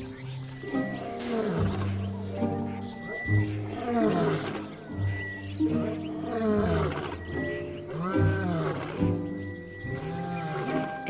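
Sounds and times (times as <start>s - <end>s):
lion roaring: 0.9s - 11.0s.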